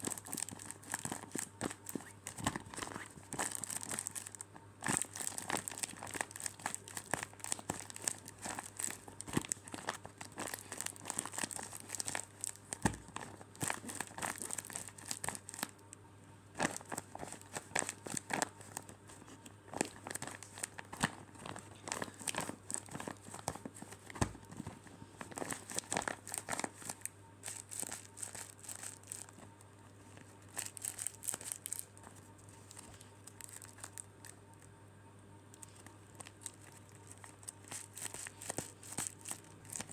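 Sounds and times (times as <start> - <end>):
squishy toys crinkling: 0.0 - 15.9, 16.6 - 34.7, 35.5 - 39.9.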